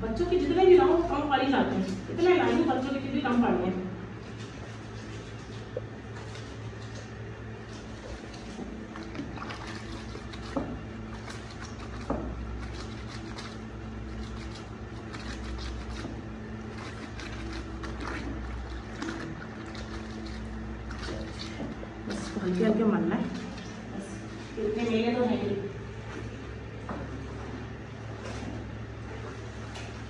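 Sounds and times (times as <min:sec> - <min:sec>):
low hum: 0:00.0 - 0:30.0
clothes hand-washed in water: 0:00.4 - 0:30.0
water swishing and splashing: 0:00.9 - 0:30.0.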